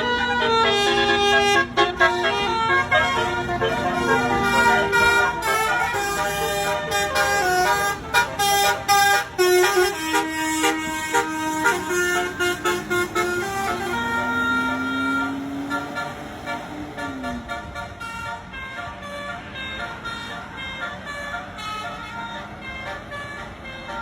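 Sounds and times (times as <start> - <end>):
multi-tone bus horn tune: 0.0 - 24.0.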